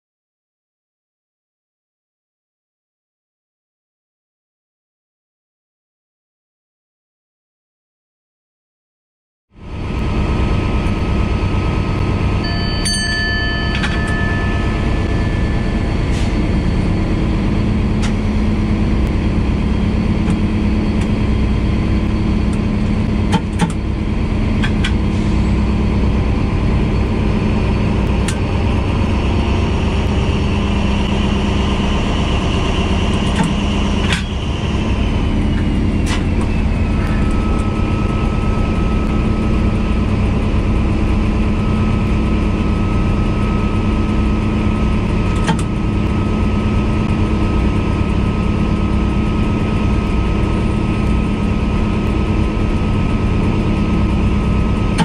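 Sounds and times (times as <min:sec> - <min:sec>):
locomotive engine running: 0:09.6 - 0:55.0.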